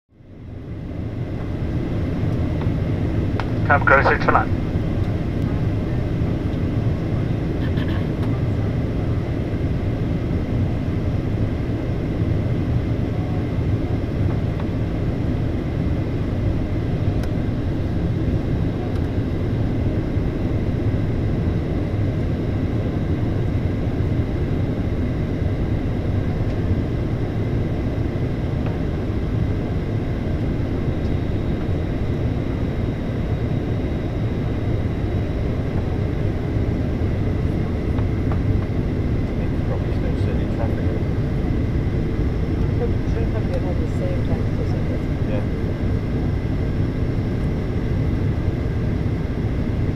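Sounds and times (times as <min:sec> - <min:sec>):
low rumble of engine and airflow: 0:00.1 - 0:49.9
thin steady turbofan whine: 0:00.1 - 0:49.9.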